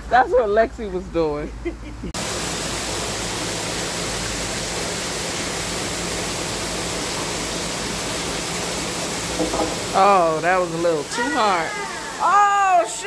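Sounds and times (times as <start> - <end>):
waterfall rushing: 2.2 - 13.0.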